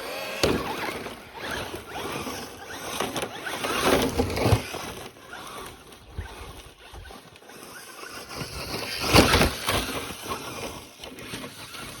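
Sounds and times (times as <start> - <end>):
toy truck tyres crunching on ground: 0.0 - 12.0.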